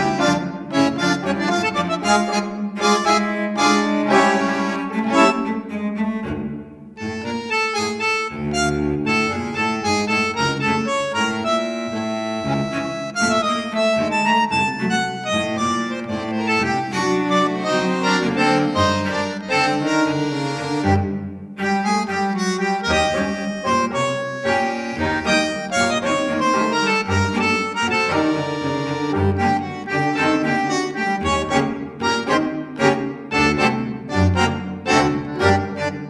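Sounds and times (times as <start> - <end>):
music with reedy sustained melody: 7.0 - 36.0.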